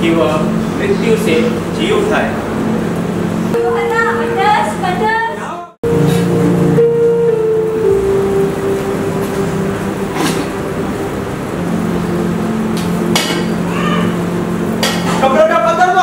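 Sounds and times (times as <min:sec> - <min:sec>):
low drone music: 0:00.0 - 0:16.0.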